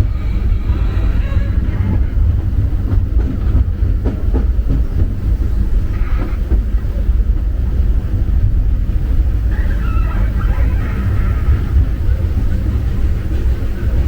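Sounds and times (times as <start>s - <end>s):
train car rumbling on track: 0.0s - 14.0s.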